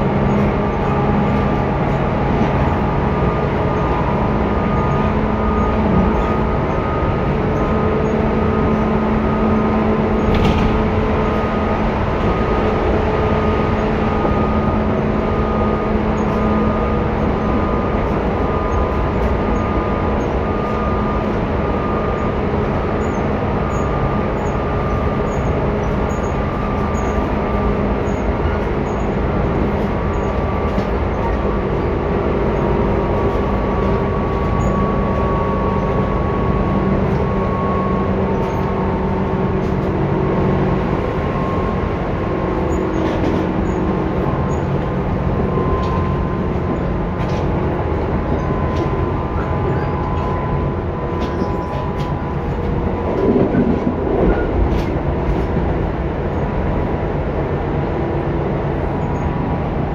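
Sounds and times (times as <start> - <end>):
motor and gear hum: 0.0 - 57.7
train wheels rumbling on rail: 0.0 - 59.9.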